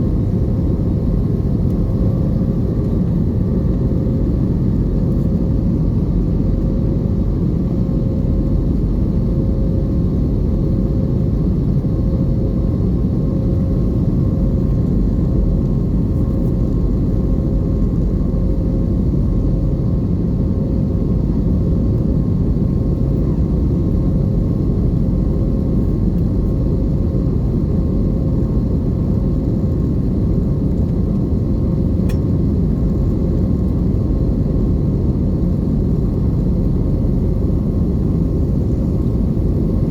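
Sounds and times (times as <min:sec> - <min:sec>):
jet engine and airflow roar: 0:00.0 - 0:39.9.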